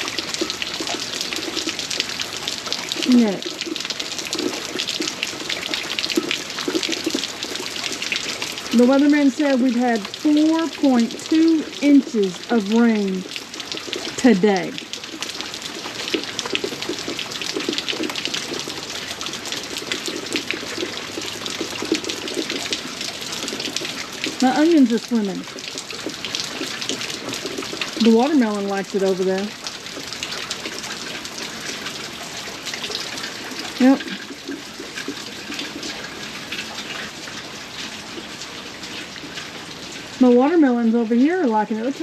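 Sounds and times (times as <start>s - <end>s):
heavy rain splashing: 0.0s - 42.0s.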